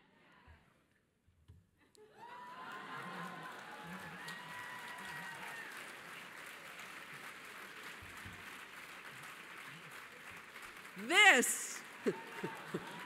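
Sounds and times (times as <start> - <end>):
audience applause: 2.2 - 13.0.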